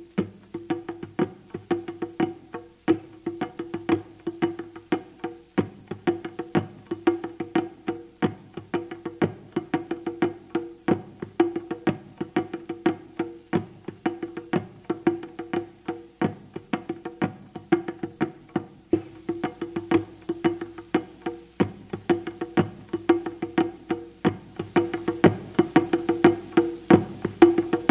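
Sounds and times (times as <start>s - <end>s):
pitched hand percussion: 0.0s - 27.9s.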